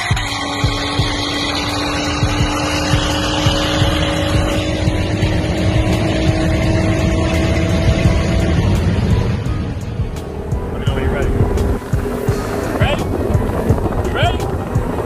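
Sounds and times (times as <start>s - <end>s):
car engine cruising: 0.0s - 15.0s
road noise: 0.0s - 15.0s.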